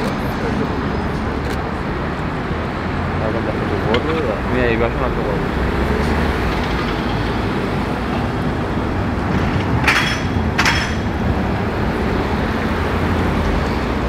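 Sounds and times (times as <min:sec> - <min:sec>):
cars passing with engine rumble: 0:00.0 - 0:14.0.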